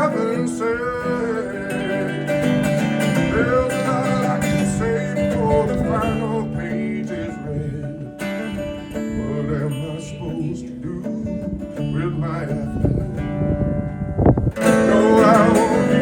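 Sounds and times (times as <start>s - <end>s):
person singing: 0.0s - 13.2s, 14.6s - 16.0s
plucked acoustic guitar: 0.0s - 16.0s.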